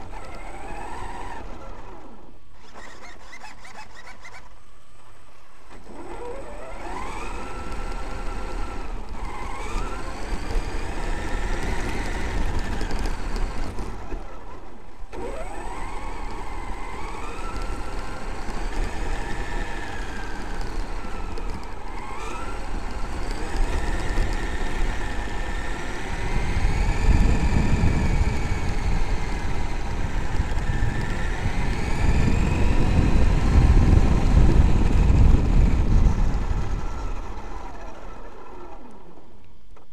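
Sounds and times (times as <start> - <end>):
electric motor whining: 5.7 - 39.0.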